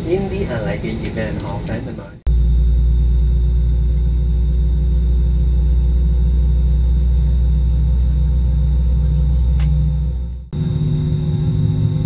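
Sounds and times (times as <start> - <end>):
faint steady hums: 0.0 - 12.0
jet engines rumbling: 0.0 - 12.0.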